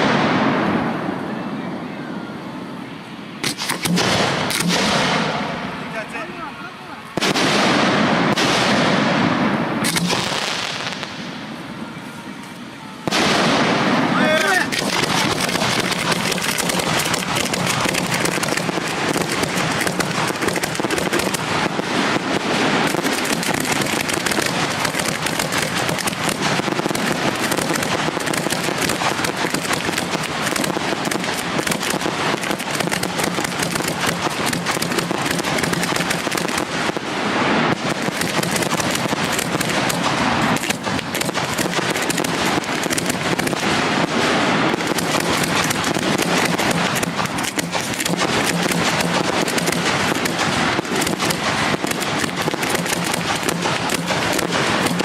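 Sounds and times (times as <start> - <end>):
fireworks bangs and crackle: 0.0 - 1.8, 2.6 - 55.0.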